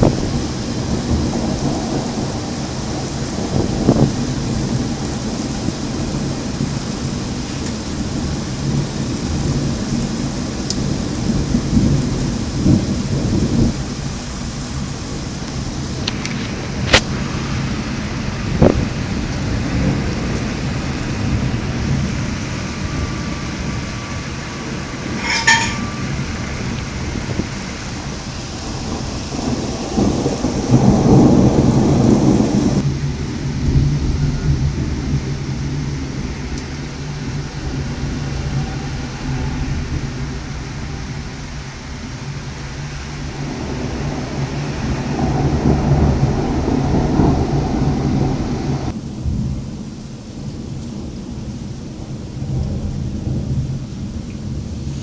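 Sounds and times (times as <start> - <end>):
steady rain: 0.0 - 55.0
thunder rumbling: 0.0 - 55.0.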